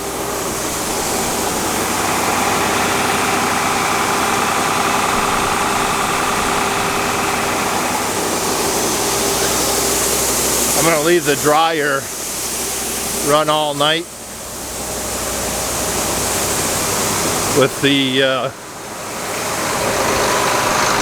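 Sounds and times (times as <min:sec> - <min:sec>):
farm machinery humming: 0:00.0 - 0:21.0.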